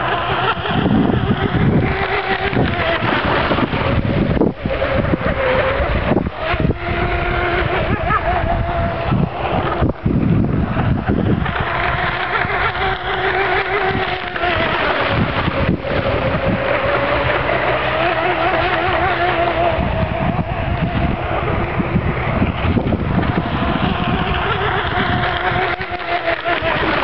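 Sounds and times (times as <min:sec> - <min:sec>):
model boat motor whining: 0:00.0 - 0:27.0
wind noise on microphone: 0:00.0 - 0:27.0.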